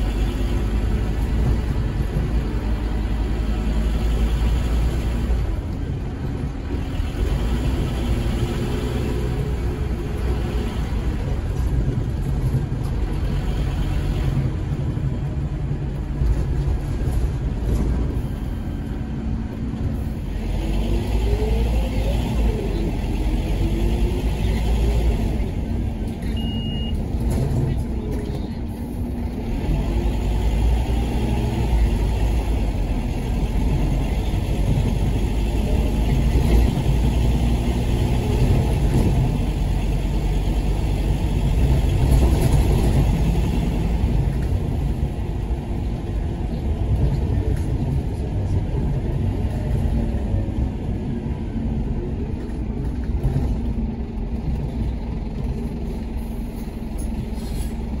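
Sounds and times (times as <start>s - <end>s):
bus engine and gearbox: 0.0s - 58.0s.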